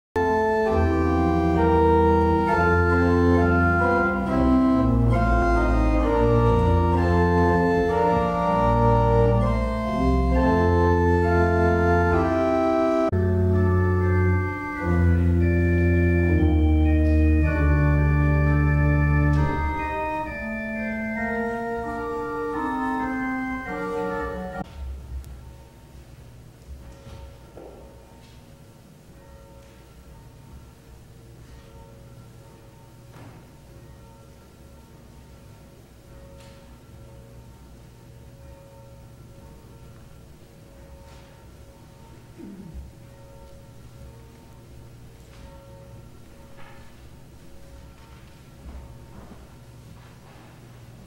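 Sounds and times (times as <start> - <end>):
organ playing slow chords: 0.2 - 25.0, 29.0 - 51.0.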